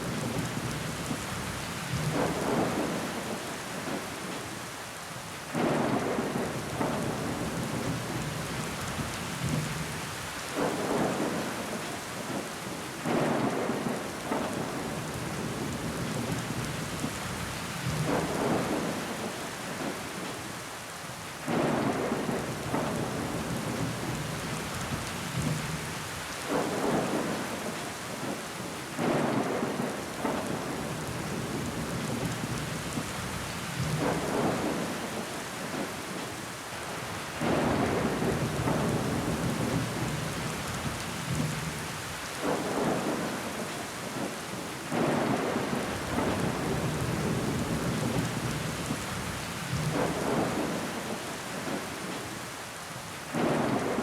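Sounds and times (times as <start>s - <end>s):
rain on window glass: 0.0s - 54.0s.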